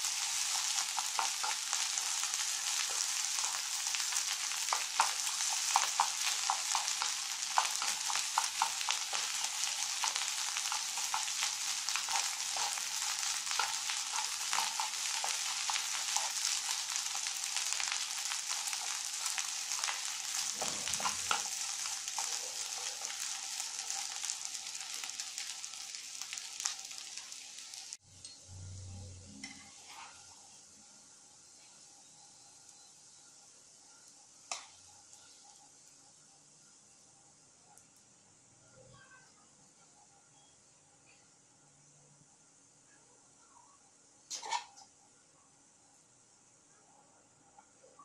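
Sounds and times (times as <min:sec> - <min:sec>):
rice sizzling in a pan: 0:00.0 - 0:28.8, 0:29.4 - 0:48.0.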